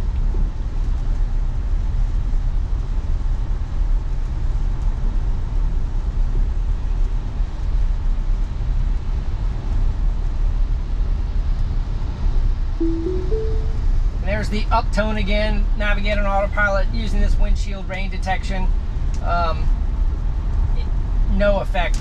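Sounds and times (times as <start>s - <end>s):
road and tyre noise in car cabin: 0.0s - 12.4s, 14.4s - 22.0s.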